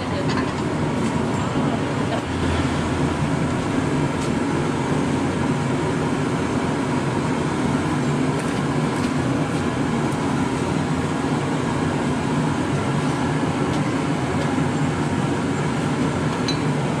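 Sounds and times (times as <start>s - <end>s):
gas burner rumble: 0.0s - 17.0s.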